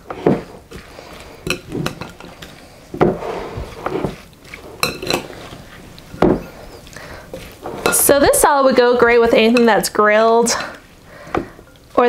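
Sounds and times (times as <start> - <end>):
wet rustle of salad: 0.6 - 11.0.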